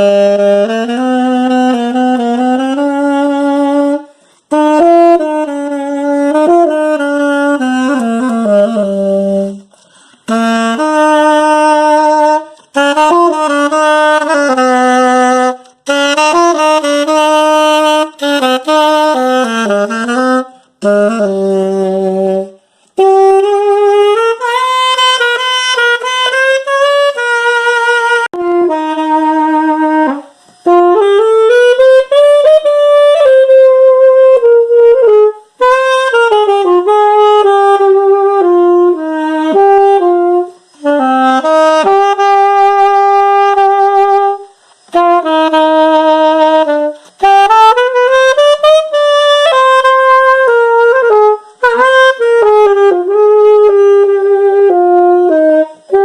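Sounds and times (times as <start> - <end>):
alto saxophone solo melody: 0.0 - 56.0.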